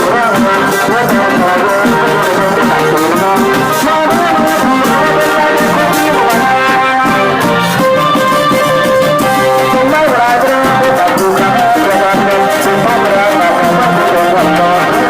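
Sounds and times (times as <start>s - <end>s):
percussion steady beat: 0.0s - 15.0s
brass horns playing melody: 0.8s - 15.0s.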